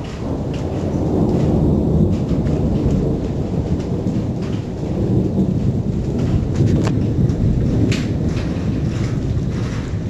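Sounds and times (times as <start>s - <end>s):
thunder rumbling: 0.0s - 10.0s.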